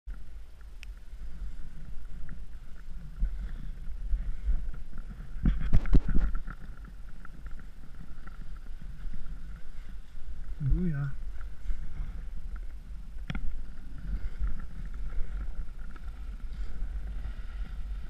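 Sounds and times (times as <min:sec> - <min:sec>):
wind rumble on microphone: 0:00.1 - 0:18.0
snowboard scraping over snow: 0:01.0 - 0:18.0.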